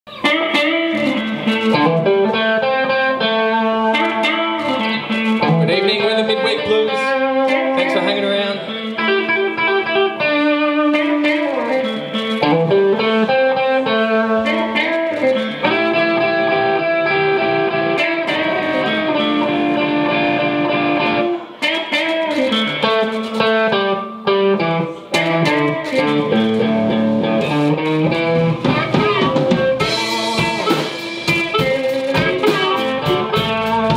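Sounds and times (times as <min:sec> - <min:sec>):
blues band on electric guitars: 0:00.1 - 0:33.9.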